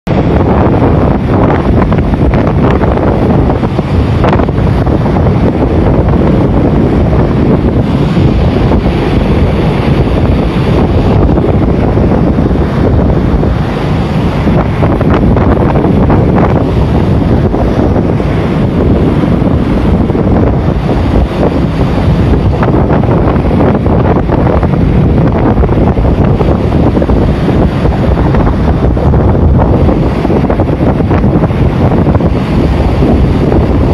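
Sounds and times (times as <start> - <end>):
strong wind buffeting microphone: 0.0 - 33.9.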